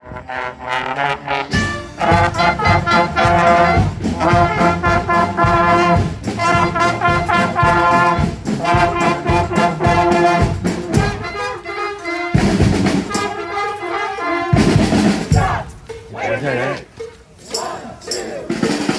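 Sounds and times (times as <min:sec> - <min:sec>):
brass horns sustained notes: 0:00.0 - 0:18.1
steady drum beat: 0:01.5 - 0:18.9.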